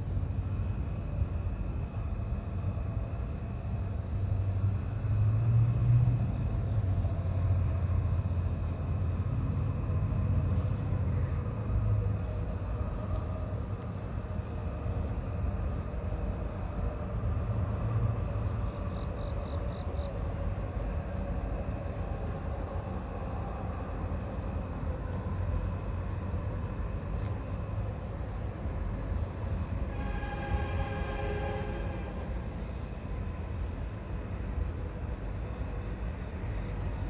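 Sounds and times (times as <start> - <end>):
faint steady tones: 0.0 - 37.0
vehicle rumble: 3.8 - 37.0.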